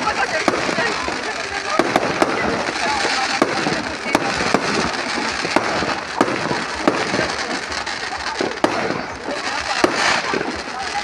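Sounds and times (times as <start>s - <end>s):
dense firework crackle: 0.0s - 11.0s
firework shells bursting: 0.0s - 11.0s.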